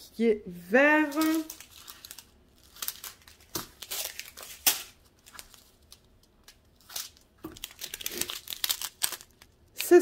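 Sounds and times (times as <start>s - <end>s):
plastic bags crinkling: 1.0s - 10.0s.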